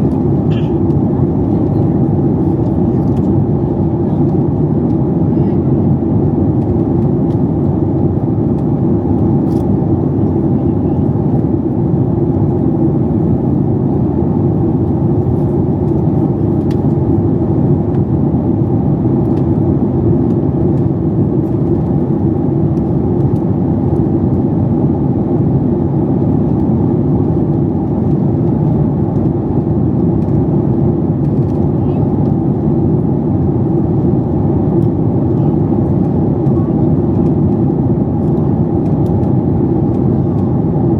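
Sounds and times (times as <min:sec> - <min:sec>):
airplane cabin engine roar: 0:00.0 - 0:40.9.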